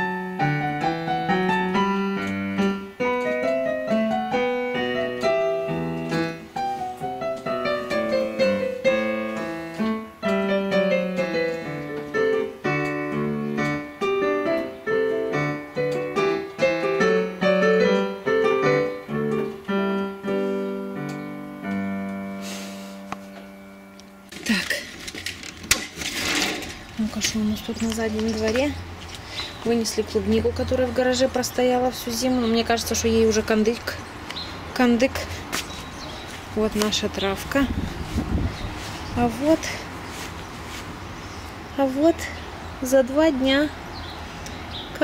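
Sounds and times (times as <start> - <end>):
digital piano piece: 0.0 - 45.0.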